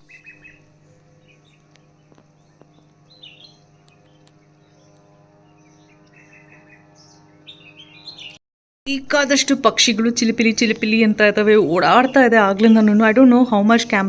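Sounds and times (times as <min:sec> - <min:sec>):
birds chirping faintly: 0:00.0 - 0:14.0
steady low hum: 0:00.0 - 0:14.0.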